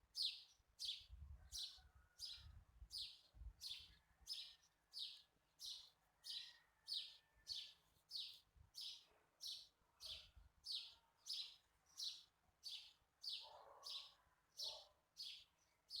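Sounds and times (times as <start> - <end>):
bird chirping: 3.0 - 16.0.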